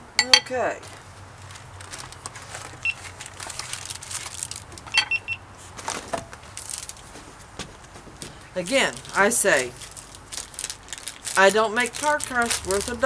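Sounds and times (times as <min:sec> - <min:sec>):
cardboard and plastic crackling: 0:00.9 - 0:05.0, 0:05.6 - 0:13.0.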